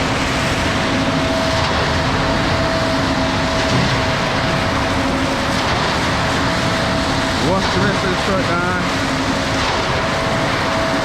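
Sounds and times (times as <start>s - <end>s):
concrete mixer truck rumbling: 0.0s - 11.0s.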